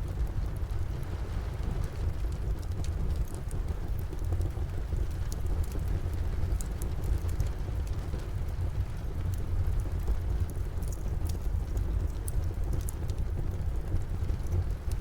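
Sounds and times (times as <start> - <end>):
steady rain: 0.0 - 15.0
wood fire crackling: 1.9 - 15.0.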